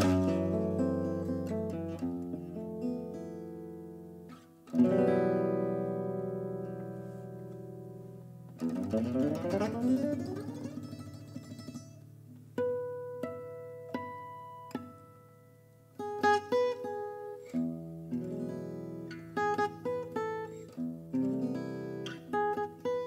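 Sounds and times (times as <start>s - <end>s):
gypsy jazz acoustic guitar: 0.0s - 23.0s.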